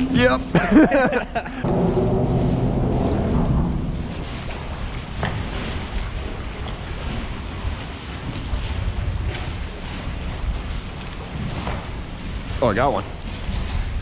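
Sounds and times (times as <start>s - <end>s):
choppy water sloshing: 0.0s - 14.0s
wind buffeting microphone: 0.0s - 14.0s.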